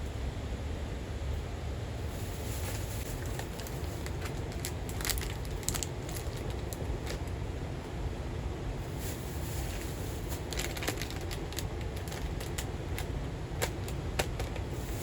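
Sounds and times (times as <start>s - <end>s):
steady rain: 1.7s - 15.0s.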